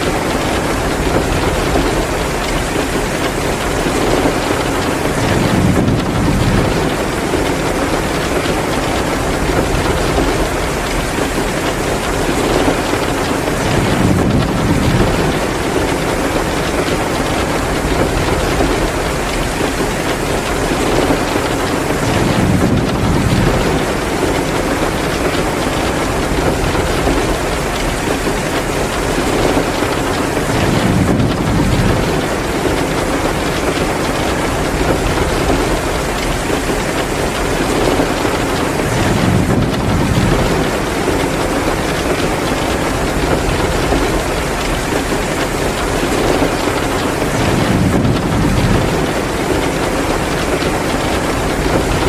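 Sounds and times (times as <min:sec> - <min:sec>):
heavy rain downpour: 0:00.0 - 0:52.0.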